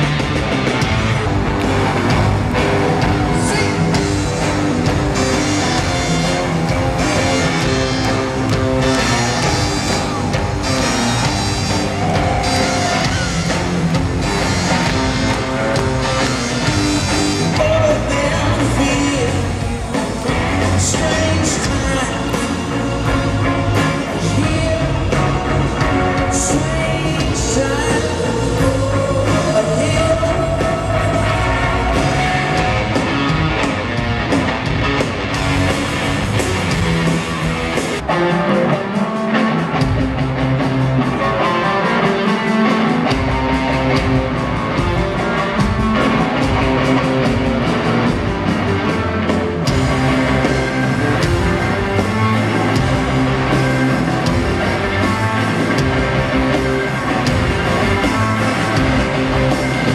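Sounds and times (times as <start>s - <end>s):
live rock band: 0.0s - 59.9s.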